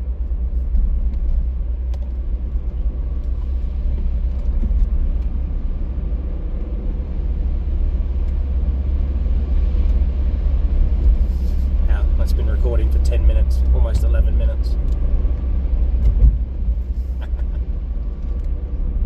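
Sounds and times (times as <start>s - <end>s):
car driving interior rumble: 0.0s - 19.0s.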